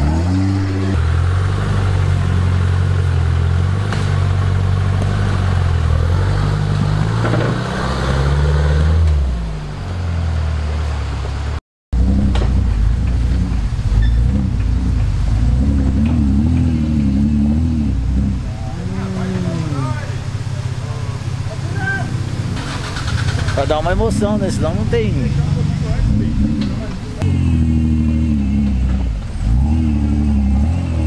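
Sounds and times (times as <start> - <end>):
engine revving under load: 0.0 - 11.0, 11.9 - 31.0.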